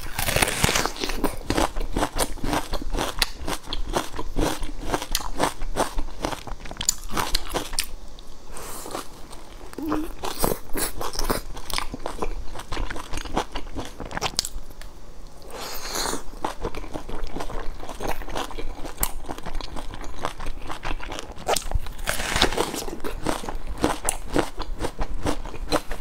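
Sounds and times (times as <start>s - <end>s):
chewing and crunching buns: 0.0s - 7.9s, 8.8s - 14.6s, 16.4s - 26.0s.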